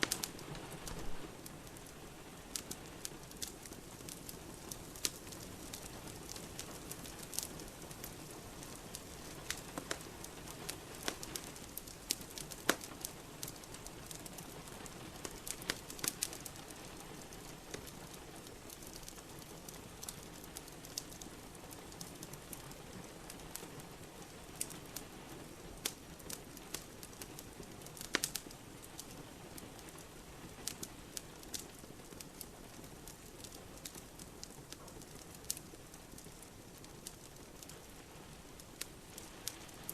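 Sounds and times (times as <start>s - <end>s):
steady rain: 0.0s - 39.9s
wood fire crackling and popping: 0.0s - 39.9s.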